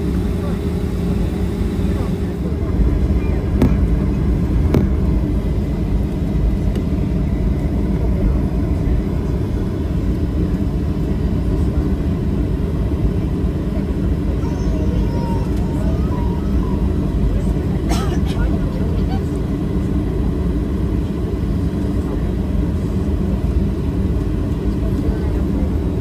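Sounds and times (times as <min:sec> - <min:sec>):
airliner low rumble: 0:00.0 - 0:26.0.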